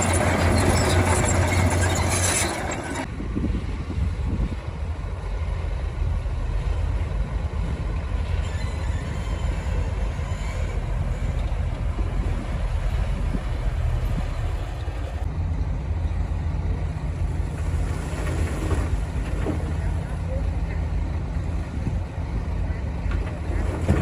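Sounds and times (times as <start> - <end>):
diesel machinery engine drone: 0.0 - 24.0.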